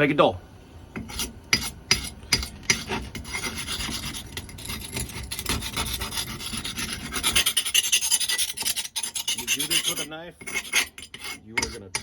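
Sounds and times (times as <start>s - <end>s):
knife scraping on brick: 1.0s - 12.0s.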